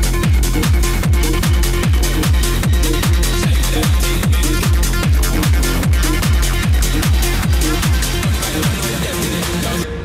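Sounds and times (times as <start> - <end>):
loud techno music: 0.0 - 10.0.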